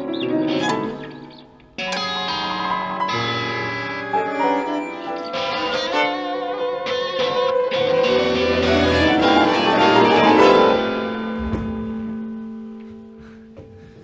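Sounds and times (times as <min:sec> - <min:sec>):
electric guitar sustained tones: 0:00.0 - 0:13.9.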